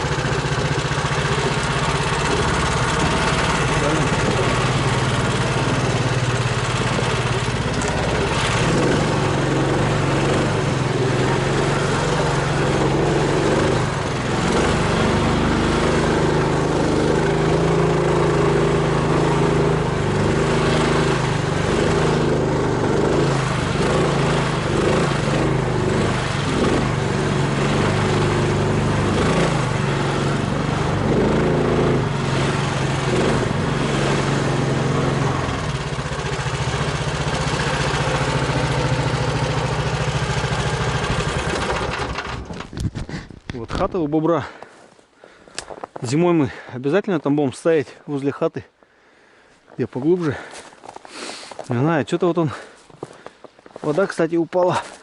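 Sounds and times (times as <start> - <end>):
vehicle engine running: 0.0 - 46.7, 49.9 - 55.0.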